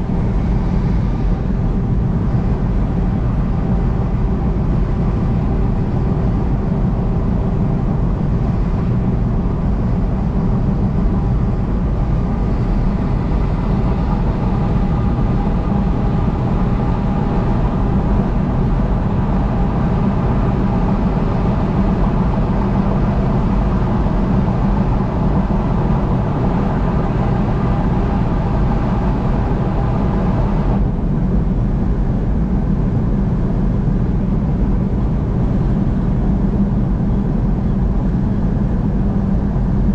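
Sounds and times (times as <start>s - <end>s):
vehicle road and engine noise: 0.0s - 39.9s.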